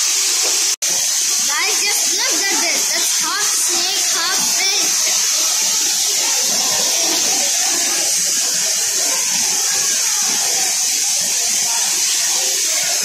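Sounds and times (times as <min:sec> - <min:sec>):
running water rushing: 0:00.0 - 0:13.0
indistinct background voices: 0:01.5 - 0:13.0.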